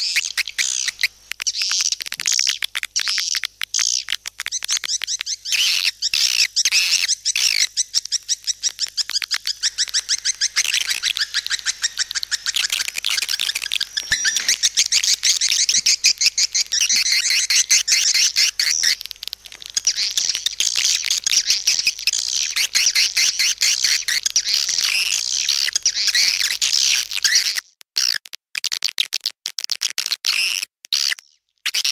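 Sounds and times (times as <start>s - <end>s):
rapid high-pitched bird chittering: 0.0s - 28.2s, 30.3s - 31.9s.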